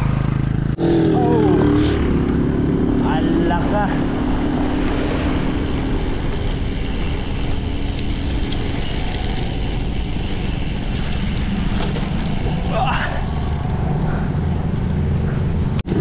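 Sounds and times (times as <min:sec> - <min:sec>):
engine hum: 0:00.0 - 0:16.0
passing vehicles: 0:00.0 - 0:16.0.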